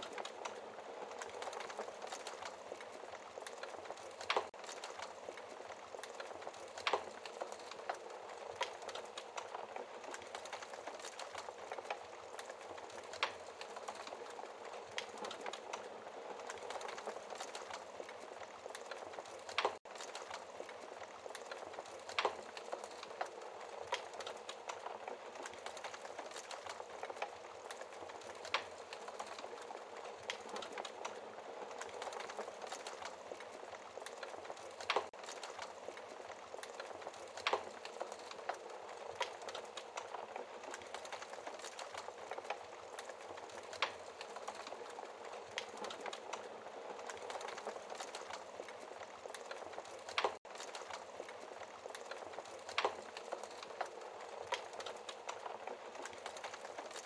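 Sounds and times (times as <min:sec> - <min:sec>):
wood fire crackling hiss: 0:00.0 - 0:57.0.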